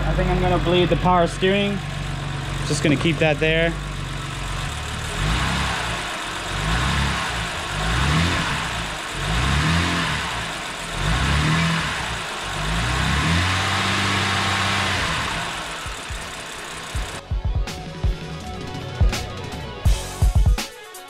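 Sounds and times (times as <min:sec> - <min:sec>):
car engine revving and idling: 0:00.0 - 0:17.3.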